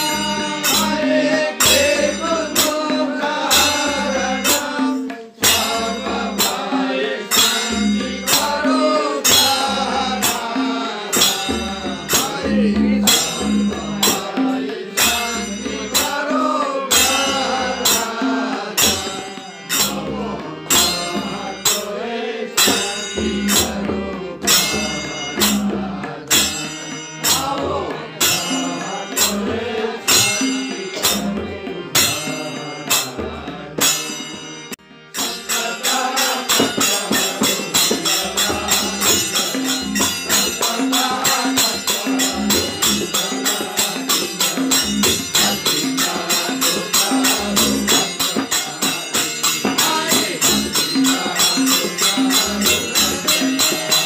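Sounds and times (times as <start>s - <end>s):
hand cymbals clashing: 0.0s - 21.9s, 22.6s - 31.4s, 32.0s - 54.0s
tabla: 0.0s - 54.0s
voices singing a devotional chant: 0.0s - 54.0s.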